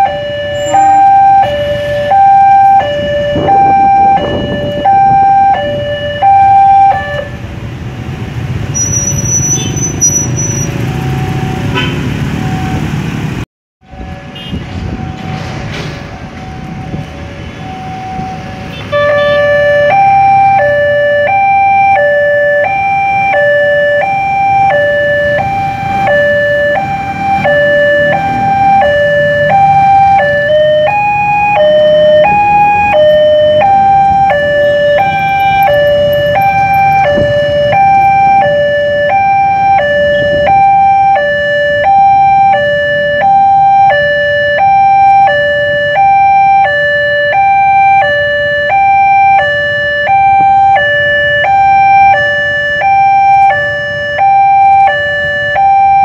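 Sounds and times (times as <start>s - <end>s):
level crossing alarm two-tone: 0.0s - 7.4s, 16.2s - 56.0s.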